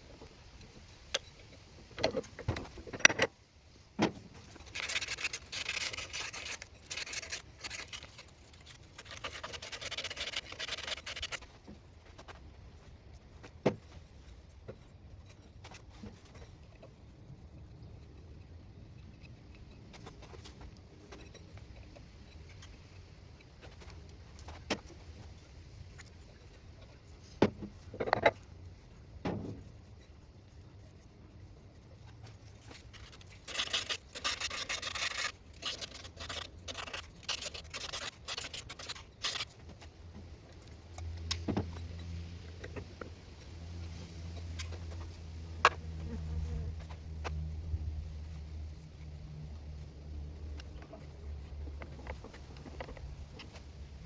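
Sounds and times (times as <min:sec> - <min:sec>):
rubbing and scraping: 0:04.1 - 0:25.4, 0:26.1 - 0:53.7.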